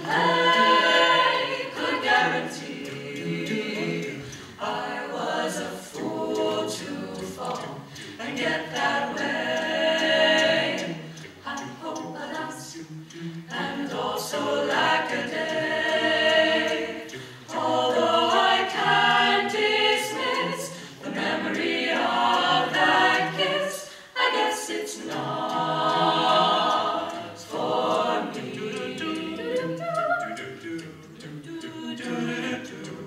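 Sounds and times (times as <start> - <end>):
a cappella group singing: 0.0 - 33.0.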